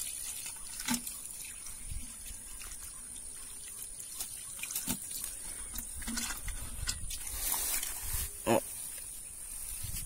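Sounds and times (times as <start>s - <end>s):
water splashing onto grass: 0.0s - 8.2s.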